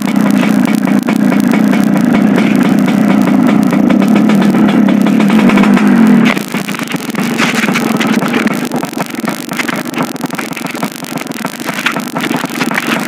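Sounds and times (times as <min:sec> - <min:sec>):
two-stroke engine running: 0:00.0 - 0:13.0.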